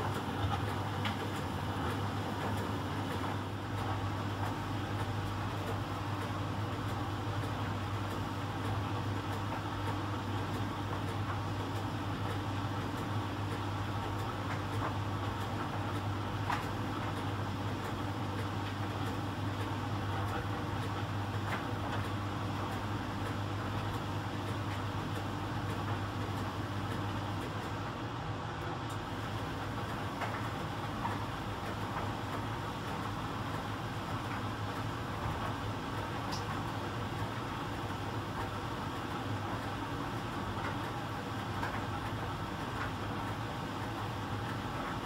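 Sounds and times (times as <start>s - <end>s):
blower fan hissing: 0.0s - 45.0s
tumble dryer humming: 0.0s - 45.0s.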